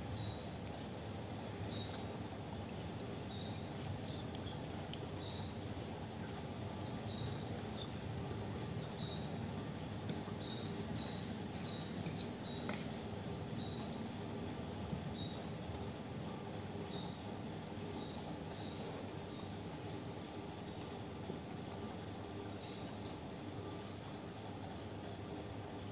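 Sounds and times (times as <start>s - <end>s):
low background noise: 0.0s - 25.9s.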